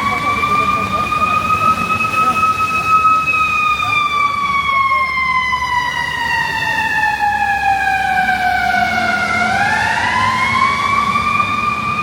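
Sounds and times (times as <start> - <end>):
fire truck siren wailing: 0.0 - 12.0
low traffic rumble: 0.0 - 12.0.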